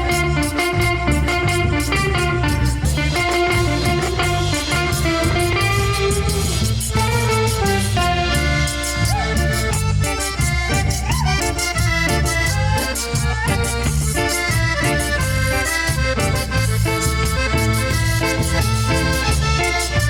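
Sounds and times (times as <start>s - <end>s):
bass: 0.0s - 20.0s
steady percussion beat: 0.0s - 20.0s.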